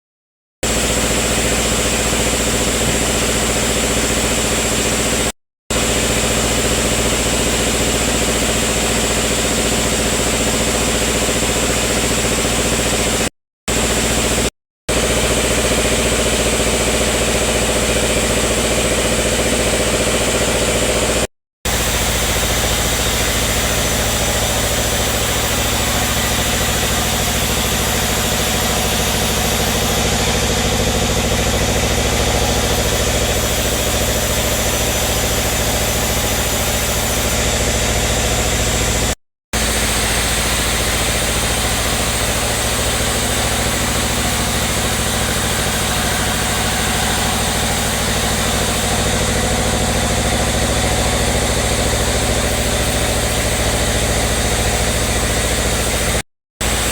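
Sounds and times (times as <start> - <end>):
sawmill machinery droning: 0.6 - 56.9.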